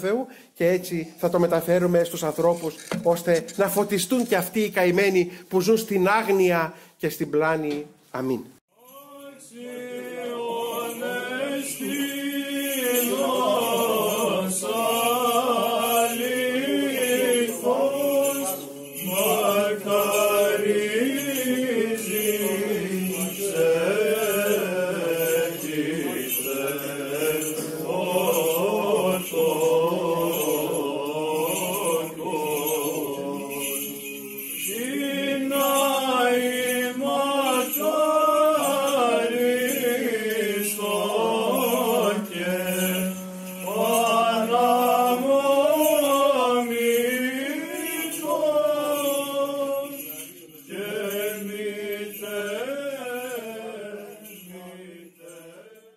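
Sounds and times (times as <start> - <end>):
voices chanting: 8.9 - 54.0.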